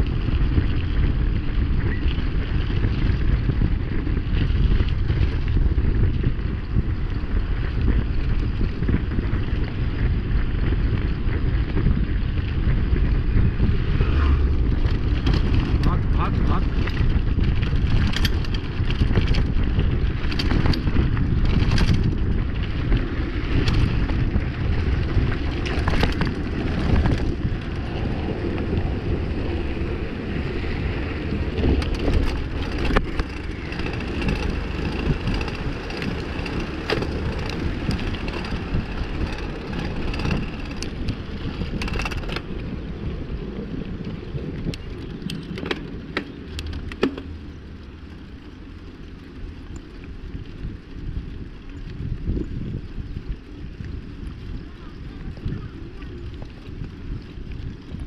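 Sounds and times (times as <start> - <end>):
bike rattles and knocks: 0.0 - 49.0
wind: 0.0 - 58.0.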